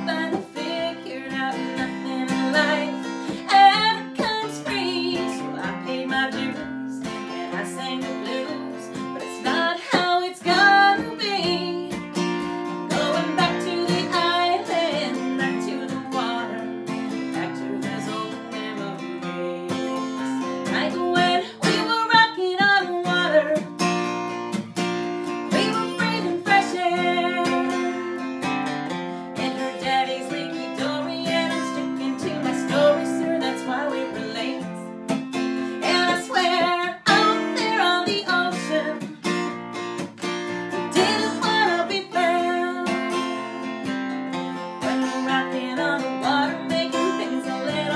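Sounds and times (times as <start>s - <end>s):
woman singing: 0.0s - 23.9s, 25.2s - 39.6s, 40.4s - 47.9s
strummed acoustic guitar: 0.0s - 47.9s.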